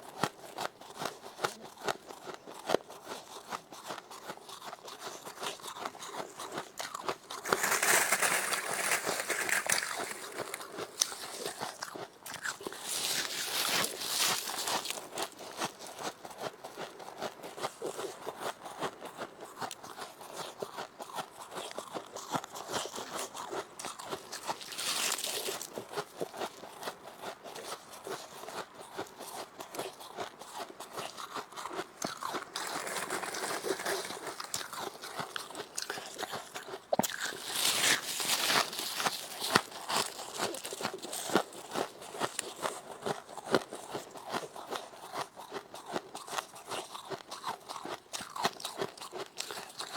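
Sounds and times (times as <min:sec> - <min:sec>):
chewing crunchy frost: 0:00.0 - 0:49.9.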